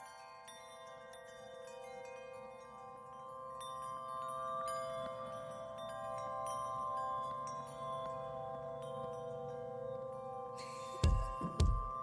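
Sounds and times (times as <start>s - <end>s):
chimes ringing: 0.0s - 12.0s.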